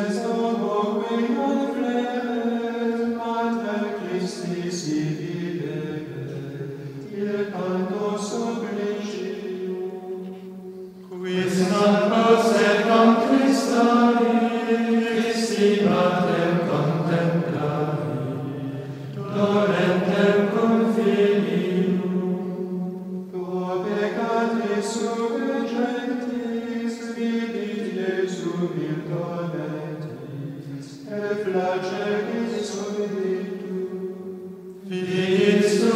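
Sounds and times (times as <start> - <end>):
slow vocal chant: 0.0 - 35.9.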